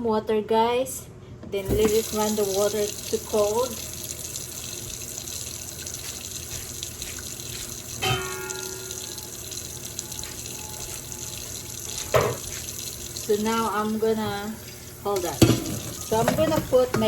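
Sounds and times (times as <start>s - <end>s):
kitchen tap running: 1.6s - 17.0s.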